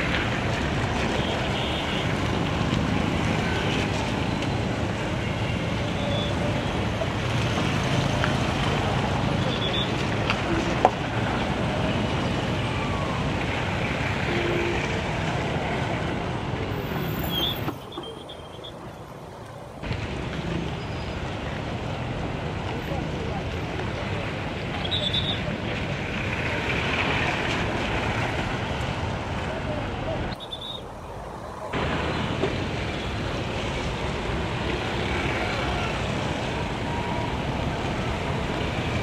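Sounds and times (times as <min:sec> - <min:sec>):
heavy street traffic: 0:00.0 - 0:39.0.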